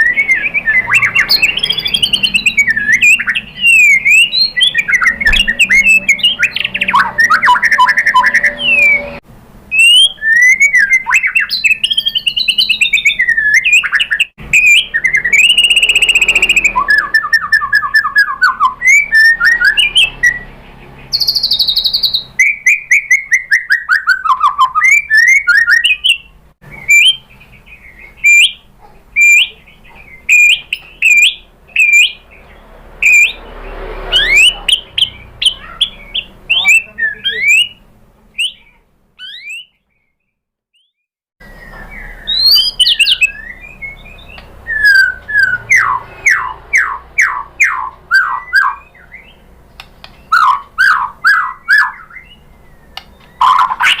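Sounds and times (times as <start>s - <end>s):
bird singing whistled phrases: 0.0s - 20.5s, 21.1s - 28.6s, 29.2s - 32.2s, 33.0s - 33.4s, 34.2s - 37.8s, 38.4s - 39.8s, 40.7s - 49.4s, 50.2s - 54.0s.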